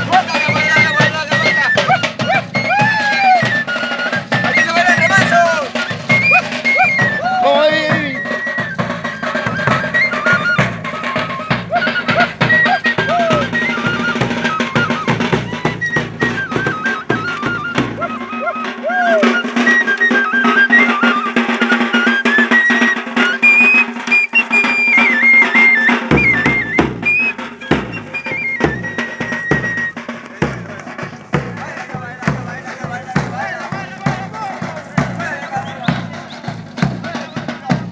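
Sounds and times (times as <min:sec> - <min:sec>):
drum beating steady rhythm: 0:00.0 - 0:37.9
high folk melody: 0:00.0 - 0:37.9.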